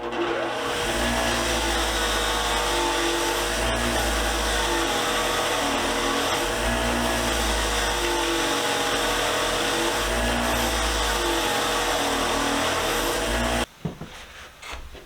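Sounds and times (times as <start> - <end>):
wire wheel brushing rust: 0.1 - 13.7.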